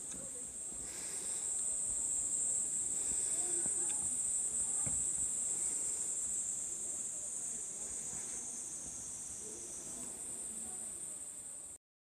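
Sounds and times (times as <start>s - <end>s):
insects chirring: 0.0s - 11.8s.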